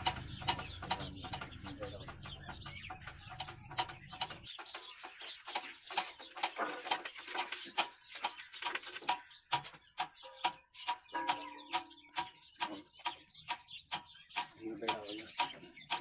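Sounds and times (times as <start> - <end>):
sharp metallic clicking: 0.0 - 16.0.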